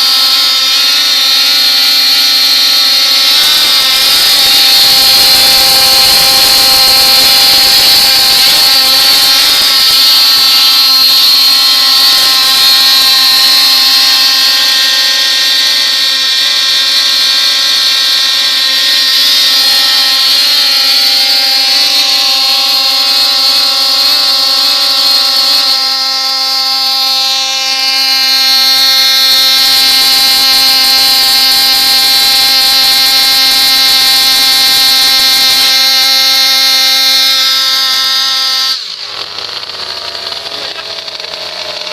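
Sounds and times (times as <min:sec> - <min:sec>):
rc car motor whine: 0:00.0 - 0:41.9.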